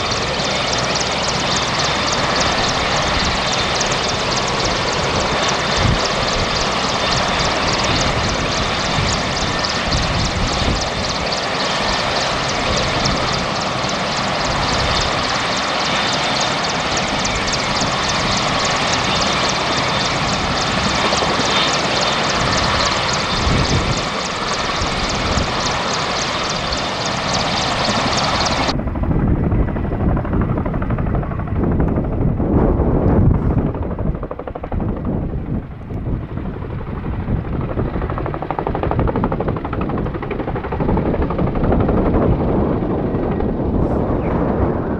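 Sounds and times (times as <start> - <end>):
helicopter turbine whine and rotor chop: 0.0 - 44.9
wind noise on microphone: 0.0 - 44.9.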